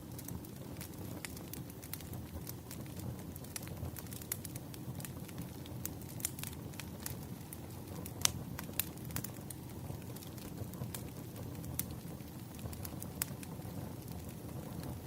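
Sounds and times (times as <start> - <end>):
fire crackling and popping: 0.0 - 15.0
fire rumbling in fireplace: 0.0 - 15.0.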